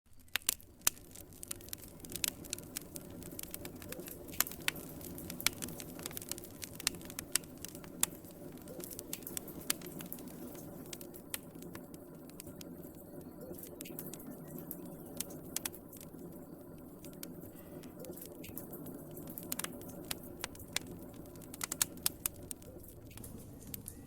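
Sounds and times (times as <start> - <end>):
wood fire crackling: 0.1 - 24.0
low rush of flames: 0.3 - 24.0.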